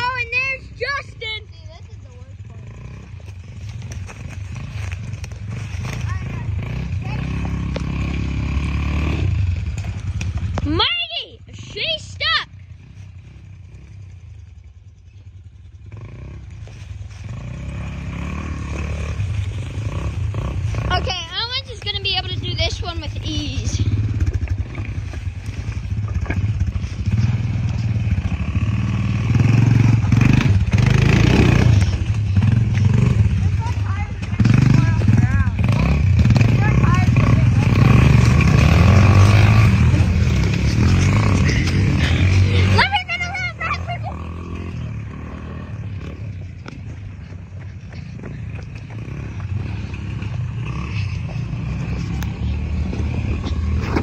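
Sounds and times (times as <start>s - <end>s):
quad atv engine running: 0.0s - 54.0s.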